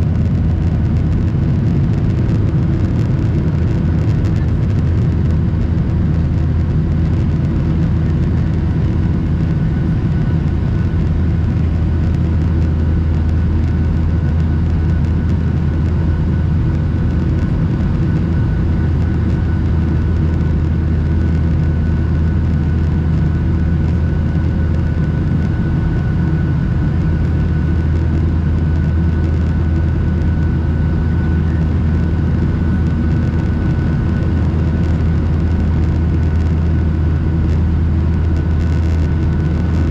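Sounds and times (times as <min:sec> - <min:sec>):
aircraft cabin low rumble: 0:00.0 - 0:39.9
faint steady whine: 0:00.0 - 0:39.9.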